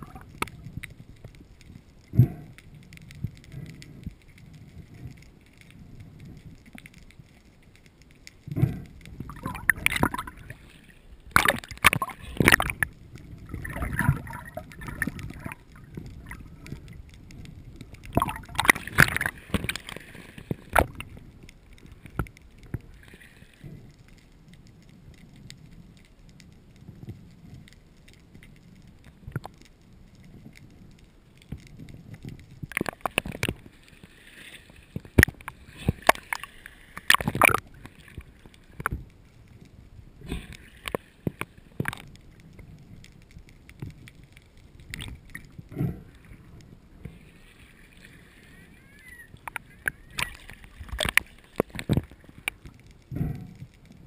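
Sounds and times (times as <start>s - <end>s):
water sloshing and gurgling: 0.0s - 26.1s, 26.7s - 54.0s.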